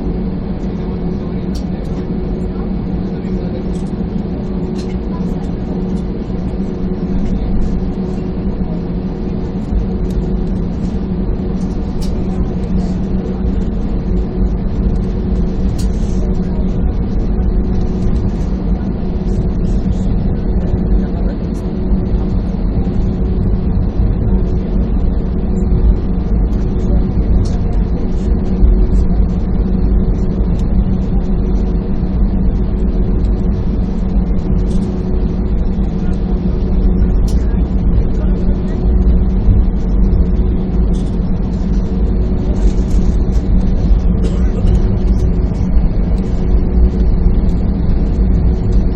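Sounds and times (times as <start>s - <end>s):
jet engines humming: 0.0s - 48.9s
low cabin rumble: 0.0s - 48.9s.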